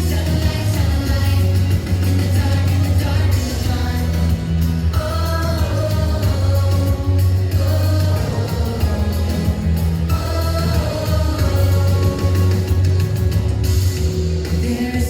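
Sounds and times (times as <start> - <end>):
children singing a pop song: 0.0 - 15.0
music with steady bass line: 0.0 - 15.0.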